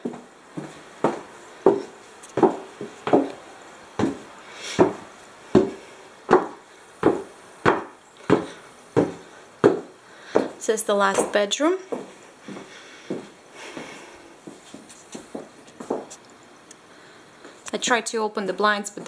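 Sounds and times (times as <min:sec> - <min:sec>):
footsteps on wooden stairs: 0:00.0 - 0:03.4, 0:04.0 - 0:16.2.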